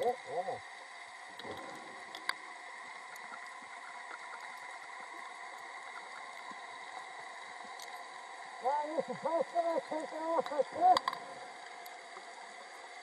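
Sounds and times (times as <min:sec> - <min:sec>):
faint ticks: 0:00.0 - 0:13.0.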